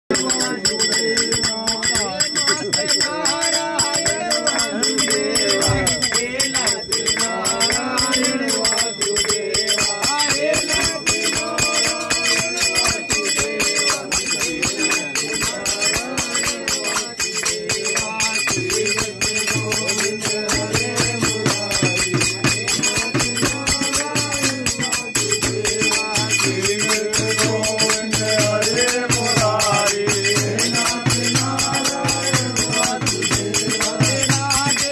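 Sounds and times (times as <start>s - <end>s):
hand cymbals clinking: 0.1s - 34.9s
men singing devotional song: 0.1s - 34.9s.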